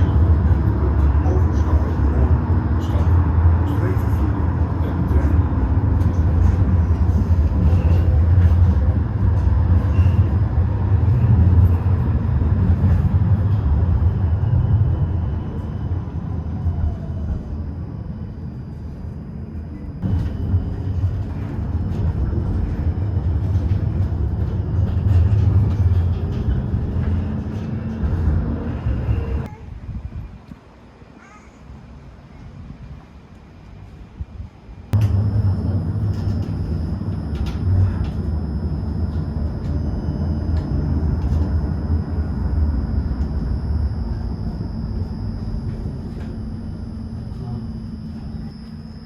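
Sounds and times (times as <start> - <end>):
tram rumbling: 0.0 - 49.0.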